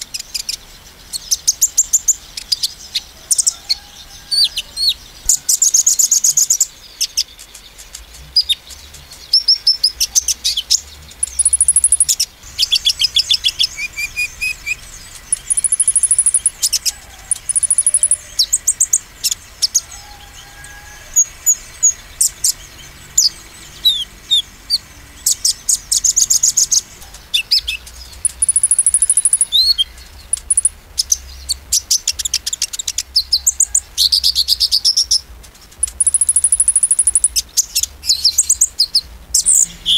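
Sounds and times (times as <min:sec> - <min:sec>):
sunbird singing high chirps and trills: 0:00.0 - 0:39.9.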